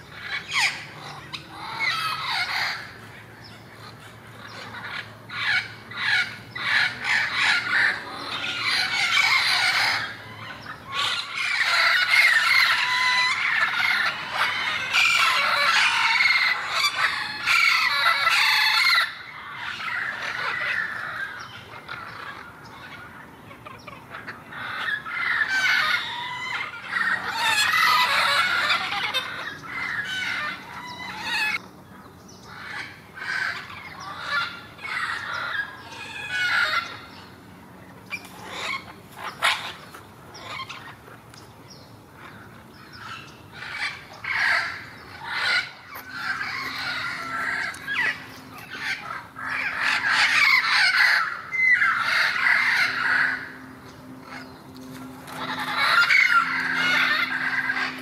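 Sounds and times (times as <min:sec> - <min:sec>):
parrots squawking: 0:00.0 - 0:31.7, 0:32.4 - 0:37.4, 0:38.0 - 0:41.2, 0:42.2 - 0:58.0.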